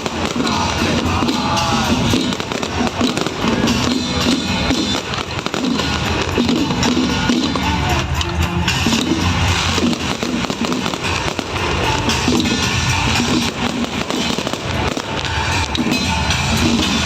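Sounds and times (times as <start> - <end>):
firecracker crackling through speakers: 0.0 - 17.0
loud amplified music: 0.0 - 17.0.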